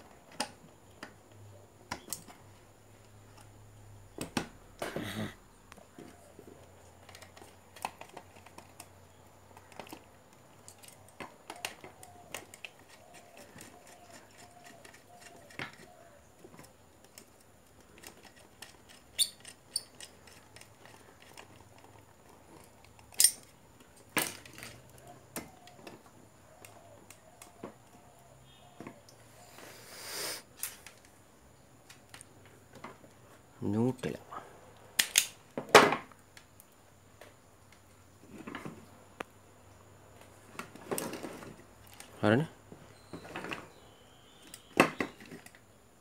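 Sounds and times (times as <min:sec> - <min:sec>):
rustle: 0:04.6 - 0:46.0.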